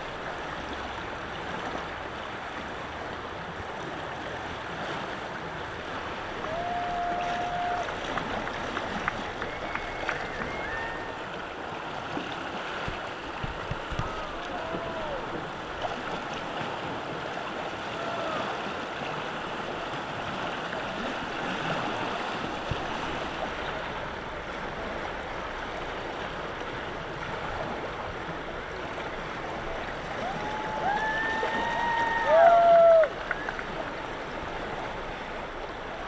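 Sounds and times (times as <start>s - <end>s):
river rapids rushing: 0.0s - 36.0s
waves breaking: 0.0s - 36.0s.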